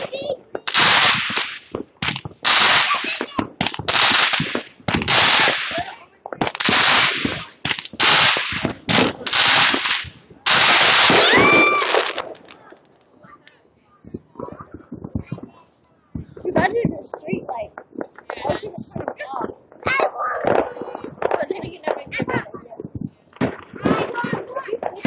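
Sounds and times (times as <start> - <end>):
fireworks bangs: 0.0 - 13.1, 13.9 - 25.0.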